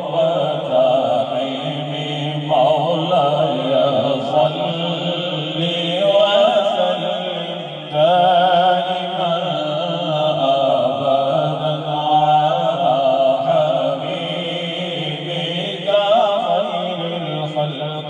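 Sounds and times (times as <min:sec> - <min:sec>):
man chanting into a microphone: 0:00.0 - 0:18.0.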